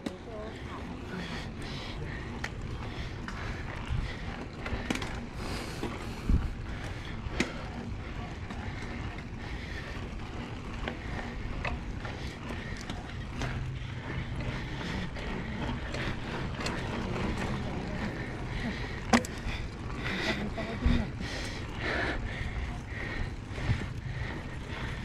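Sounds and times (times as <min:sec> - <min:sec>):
bike rumbling on dirt trail: 0:00.0 - 0:25.0.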